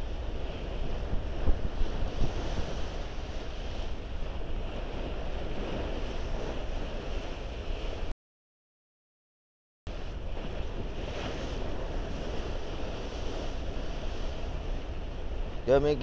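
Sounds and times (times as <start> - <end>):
sea water rushing and splashing: 0.0 - 8.1, 9.9 - 16.0
wind buffeting microphone: 0.0 - 8.1, 9.9 - 16.0.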